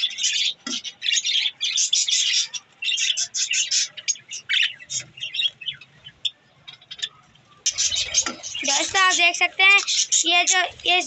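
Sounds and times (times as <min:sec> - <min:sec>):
budgerigars chirping and chattering: 0:00.0 - 0:11.0.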